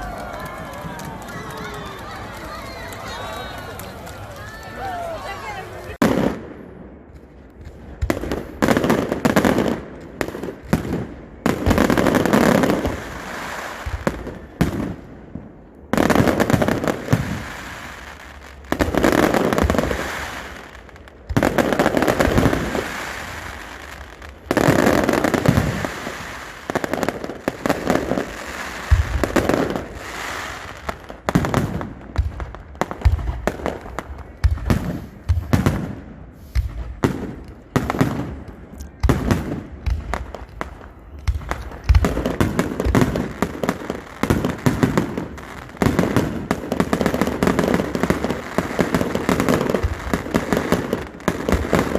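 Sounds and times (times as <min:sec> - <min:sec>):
firework crackles: 0:00.0 - 0:51.9.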